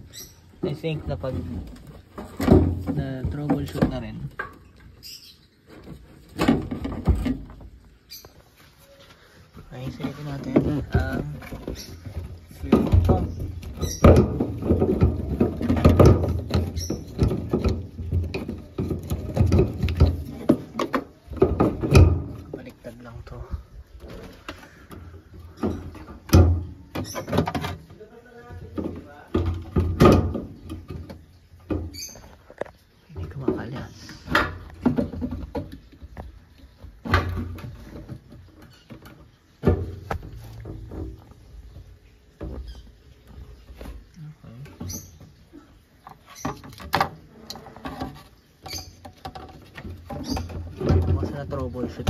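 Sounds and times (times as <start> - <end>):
parts rattling: 0.0 - 52.0.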